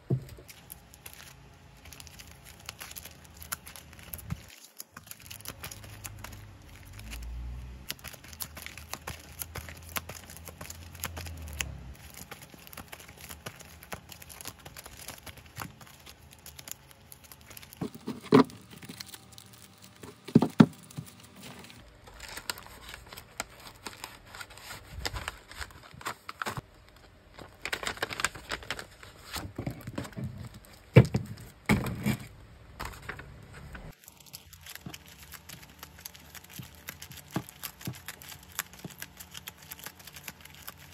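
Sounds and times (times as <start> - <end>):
plastic sleeves crinkling: 0.0 - 32.1, 33.9 - 40.9.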